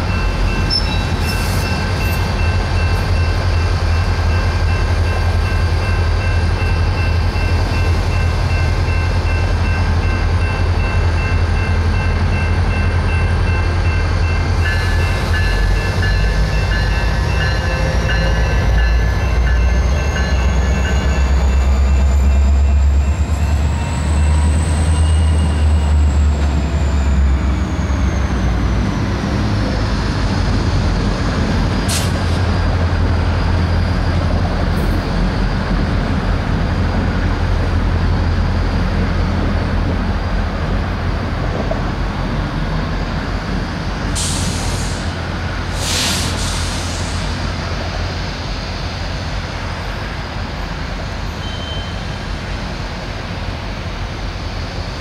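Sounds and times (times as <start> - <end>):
diesel locomotive engine rumble: 0.0 - 55.0.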